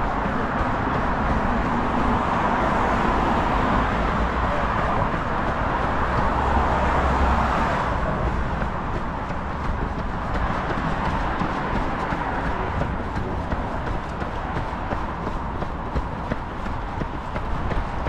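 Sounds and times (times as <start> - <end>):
road traffic: 0.0 - 18.0
wind: 0.0 - 18.0.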